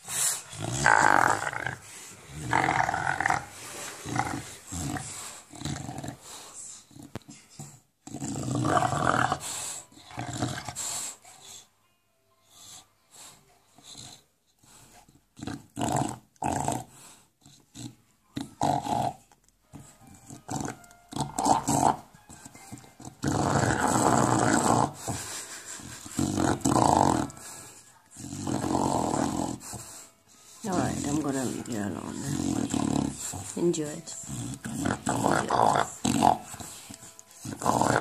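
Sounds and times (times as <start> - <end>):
dog play-growling and grunting: 0.0 - 11.3, 13.7 - 30.0, 30.6 - 38.0.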